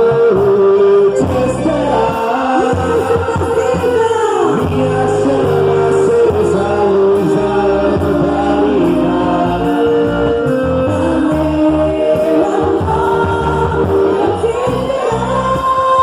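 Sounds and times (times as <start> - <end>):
song with sung vocals: 0.0 - 16.0.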